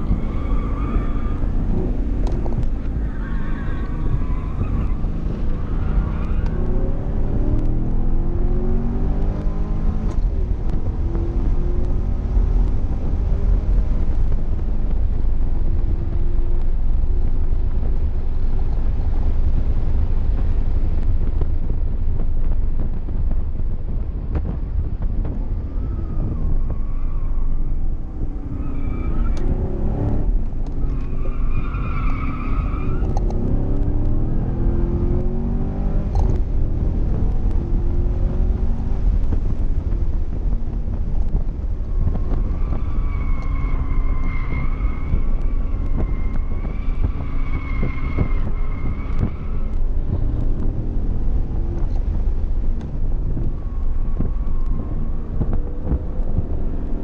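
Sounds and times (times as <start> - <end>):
tires squealing: 0.0 - 19.5, 25.4 - 57.0
car engine accelerating: 0.0 - 57.0
road rumble: 0.0 - 57.0.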